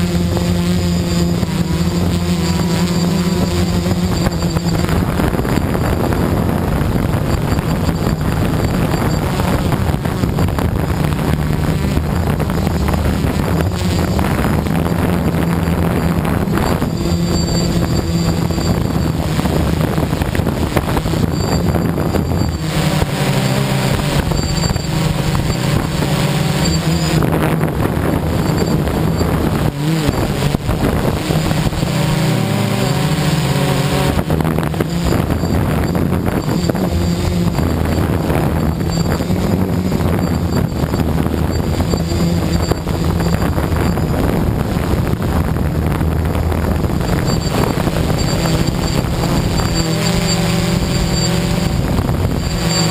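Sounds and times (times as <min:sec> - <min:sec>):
quadcopter propellers buzzing: 0:00.0 - 0:52.9
wind rushing over microphone: 0:00.0 - 0:52.9.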